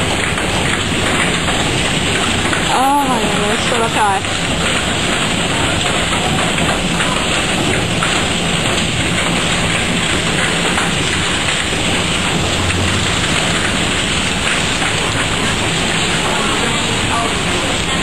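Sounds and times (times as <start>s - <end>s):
hail and heavy rain pelting: 0.0s - 18.0s.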